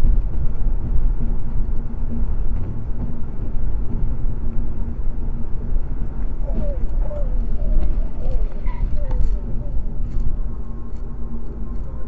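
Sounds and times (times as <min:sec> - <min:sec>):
car road noise drone: 0:00.0 - 0:12.0
faint constant hum: 0:00.0 - 0:12.0.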